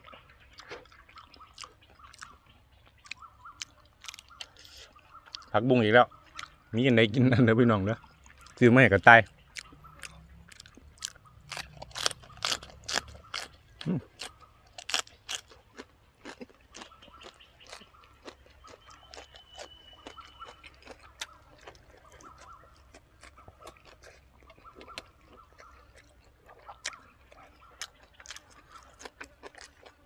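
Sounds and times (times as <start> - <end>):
person chewing crunchy food: 0.0 - 5.5, 6.2 - 6.6, 8.2 - 8.7, 9.5 - 30.0.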